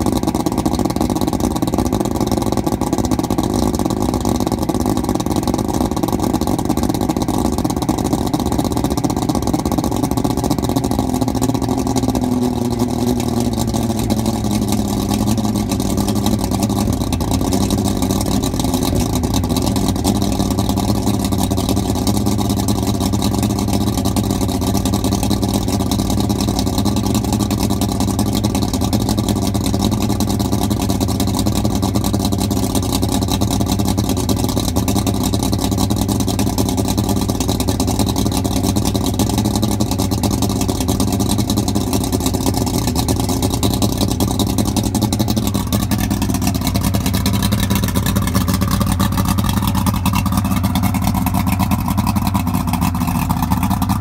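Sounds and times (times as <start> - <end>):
outboard motor idling: 0.0 - 54.0.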